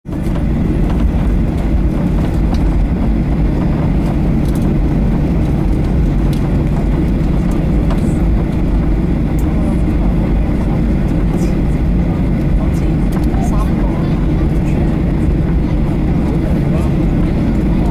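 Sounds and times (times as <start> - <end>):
jet engine low rumble: 0.0 - 17.9.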